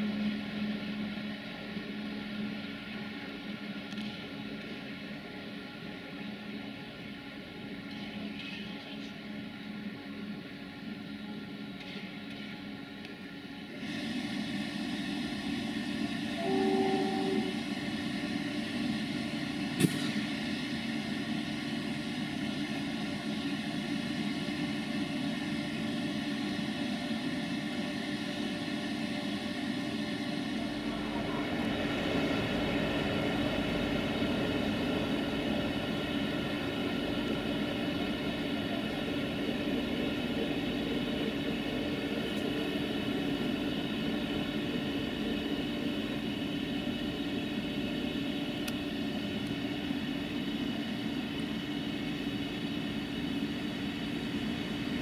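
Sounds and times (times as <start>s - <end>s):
train mechanical drone: 0.0s - 55.0s.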